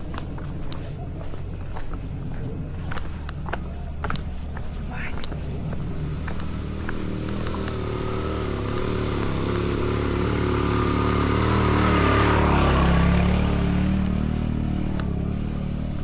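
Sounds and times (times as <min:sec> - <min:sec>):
motorbike engine passing: 0:00.0 - 0:16.0.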